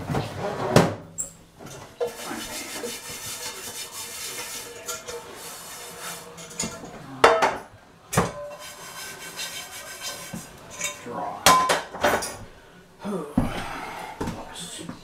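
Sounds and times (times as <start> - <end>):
dishes and cutlery clattering: 0.2 - 12.5.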